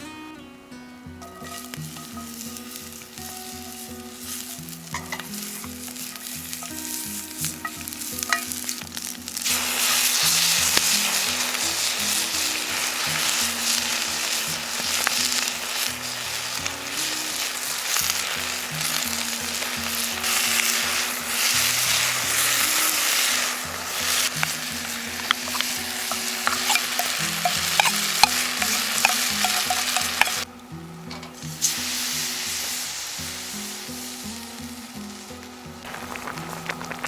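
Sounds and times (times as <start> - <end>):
food sizzling in a pan: 0.8 - 37.0
campfire crackles: 1.4 - 37.0.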